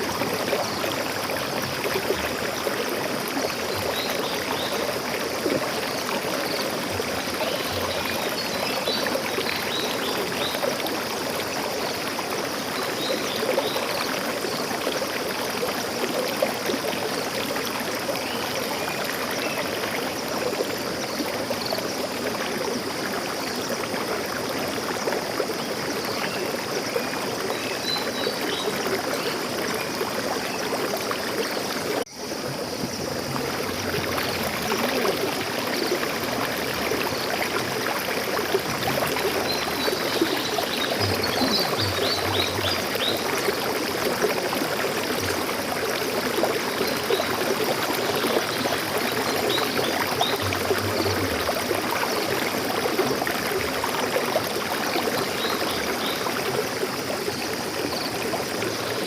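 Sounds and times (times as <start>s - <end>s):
stream water rushing and gurgling: 0.0s - 59.0s.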